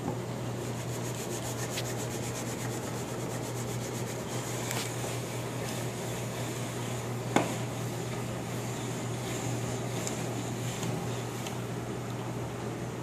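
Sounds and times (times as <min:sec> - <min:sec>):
steady low hum: 0:00.0 - 0:13.0
soft rubbing: 0:00.6 - 0:11.7.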